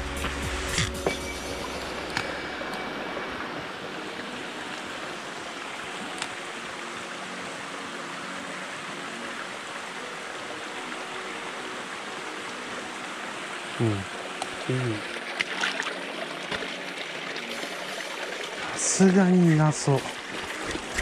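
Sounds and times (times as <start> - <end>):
water rushing over a dam: 2.0 - 21.0.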